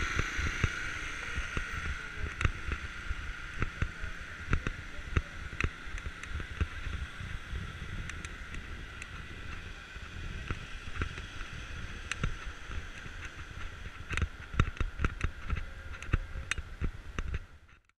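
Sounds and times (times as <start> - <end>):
city street noise: 0.0 - 17.6
wind rumbling on microphone: 0.0 - 17.8.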